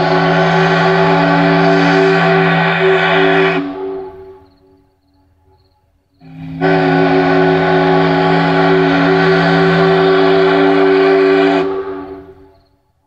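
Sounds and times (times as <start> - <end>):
steam whistle blast: 0.0 - 4.8, 6.2 - 12.8.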